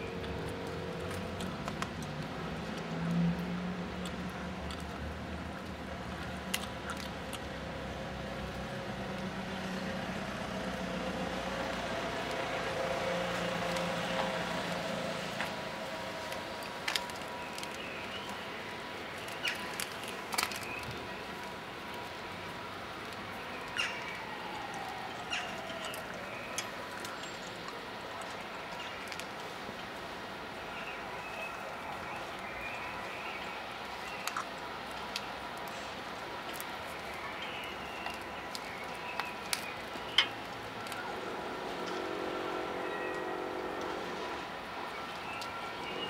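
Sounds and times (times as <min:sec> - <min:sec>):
outdoor background hum: 0:00.0 - 0:46.0
traffic passing: 0:00.0 - 0:46.0.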